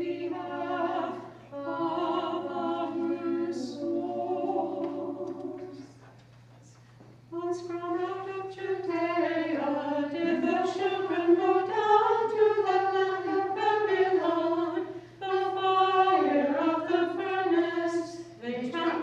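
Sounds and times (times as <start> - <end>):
women chanting a hymn: 0.0 - 5.9, 7.4 - 19.0.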